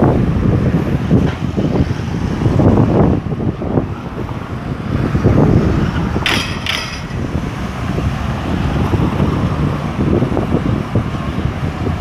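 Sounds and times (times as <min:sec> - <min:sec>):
cars driving past: 0:00.0 - 0:12.0
wind buffeting microphone: 0:00.0 - 0:12.0.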